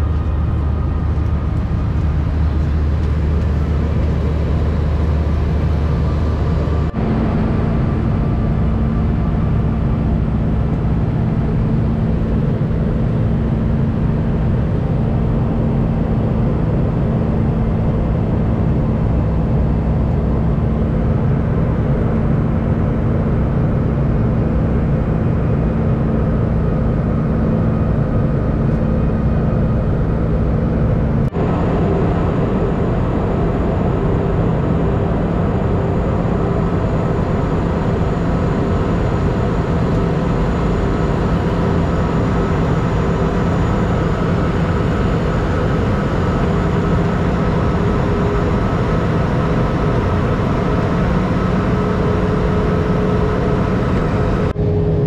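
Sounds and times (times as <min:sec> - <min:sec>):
airplane engines roaring: 0:00.0 - 0:55.0
low cabin hum: 0:00.0 - 0:55.0.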